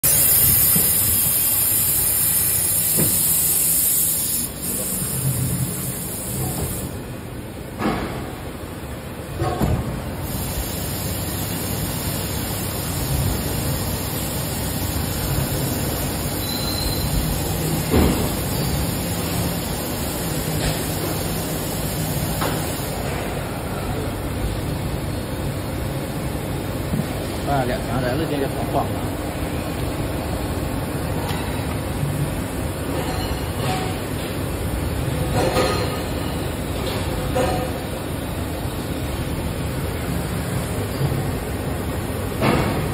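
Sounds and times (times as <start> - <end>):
moulding machine hiss and hum: 0.0 - 7.6, 9.8 - 42.9.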